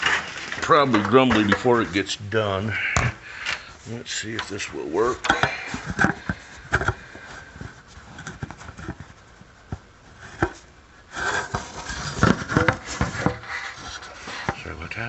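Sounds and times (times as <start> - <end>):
rubbing and clattering: 0.0 - 3.6, 4.2 - 15.0.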